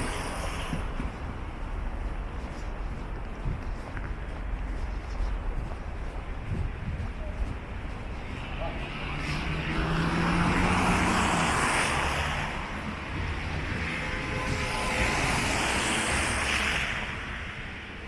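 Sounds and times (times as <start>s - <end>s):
vehicles passing on wet road: 0.0s - 18.0s.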